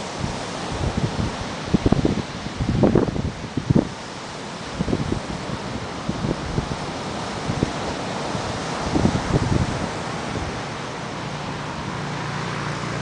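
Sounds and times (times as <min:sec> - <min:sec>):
surf rushing: 0:00.0 - 0:13.0
wind buffeting microphone: 0:00.0 - 0:13.0.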